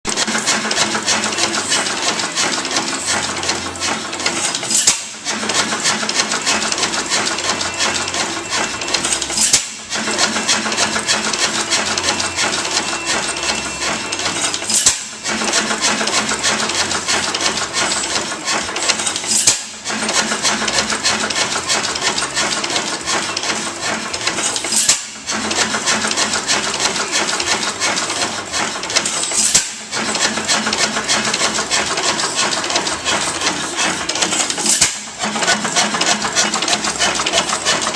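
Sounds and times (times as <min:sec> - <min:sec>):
engine mechanical clatter: 0:00.1 - 0:37.9.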